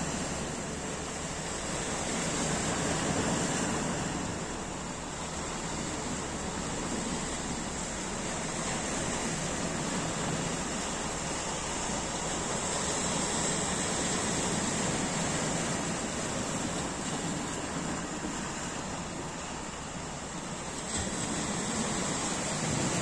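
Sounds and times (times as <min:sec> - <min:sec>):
waves breaking on rocks: 0:00.0 - 0:23.0.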